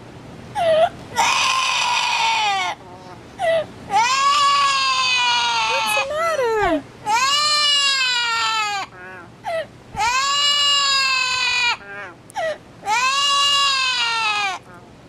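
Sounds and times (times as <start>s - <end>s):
parrot wailing calls: 0.6s - 14.8s.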